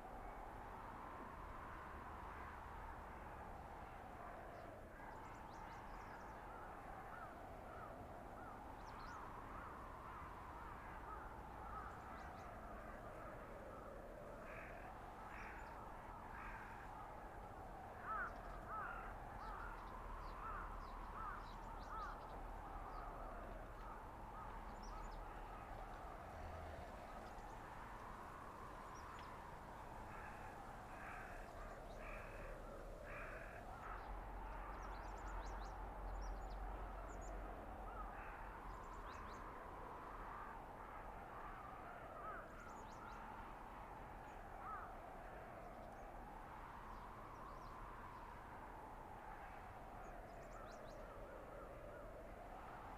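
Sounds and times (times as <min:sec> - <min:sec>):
wind howling: 0:00.0 - 0:52.9.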